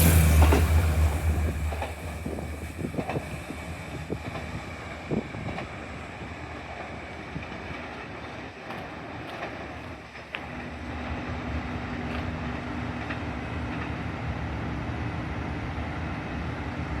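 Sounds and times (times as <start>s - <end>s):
train rail rumble: 0.0s - 17.0s.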